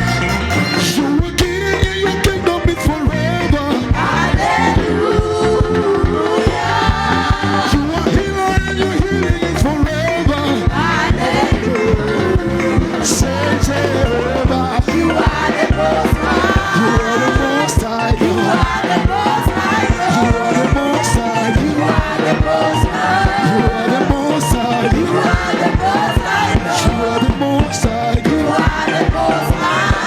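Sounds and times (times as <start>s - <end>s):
live band playing worship music: 0.0s - 30.0s
voices singing: 0.8s - 30.0s.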